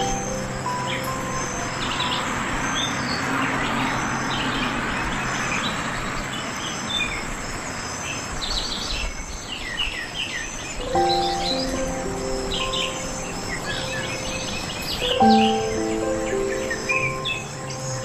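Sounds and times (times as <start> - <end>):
birds chirping and calling: 0.0 - 5.8, 8.4 - 18.0
insect hiss: 0.0 - 18.0.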